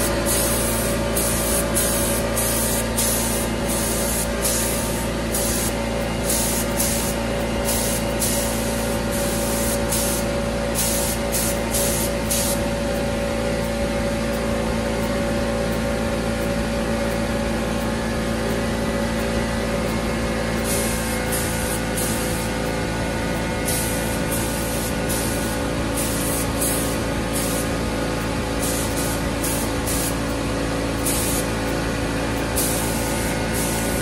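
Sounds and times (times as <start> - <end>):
spray gun air hiss bursts: 0.0 - 14.4, 20.5 - 34.0
steady machine hum: 0.0 - 34.0.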